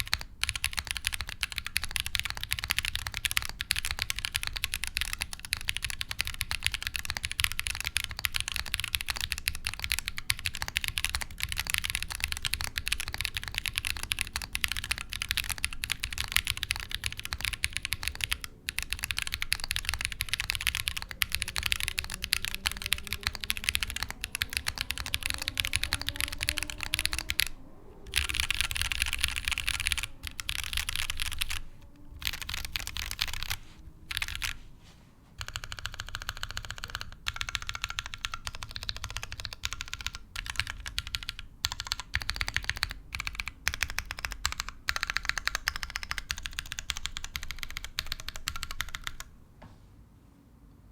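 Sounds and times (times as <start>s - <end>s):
fast mechanical keyboard typing: 0.0s - 34.6s, 35.4s - 49.3s.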